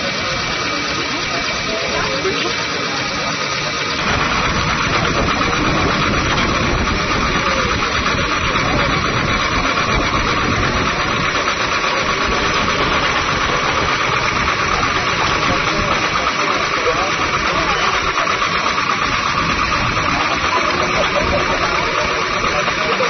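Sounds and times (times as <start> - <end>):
engine running with rattle: 0.0 - 23.0.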